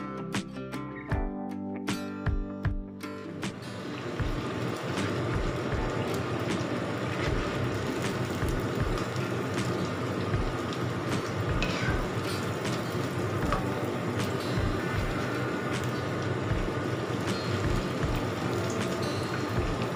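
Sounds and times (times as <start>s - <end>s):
oil crackling and popping: 3.4s - 19.9s
deep-frying in hot oil: 3.5s - 19.9s.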